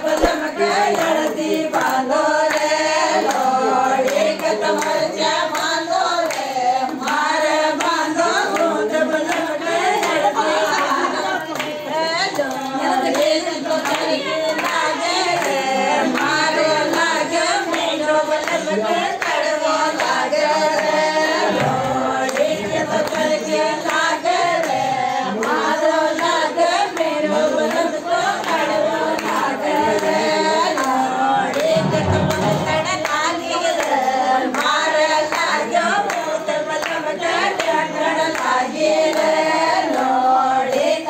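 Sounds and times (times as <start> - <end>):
women singing together: 0.0 - 41.0.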